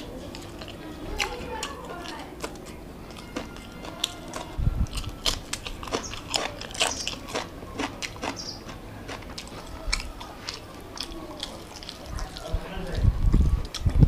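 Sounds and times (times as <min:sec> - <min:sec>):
crisp chewing and biting: 0:00.0 - 0:14.0.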